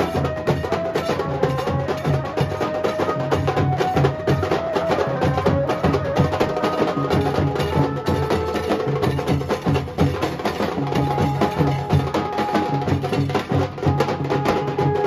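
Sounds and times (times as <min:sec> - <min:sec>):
deep drum beats: 0:00.0 - 0:15.0
fast drumming: 0:00.0 - 0:15.0.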